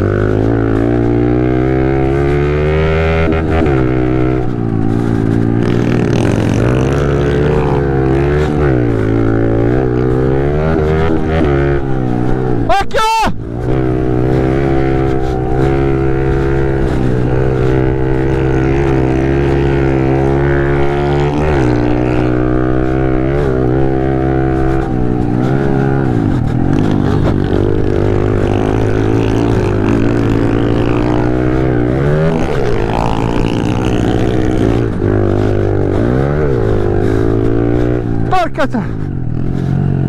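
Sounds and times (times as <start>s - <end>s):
pit bike engine revving: 0.0s - 12.7s, 13.4s - 40.0s.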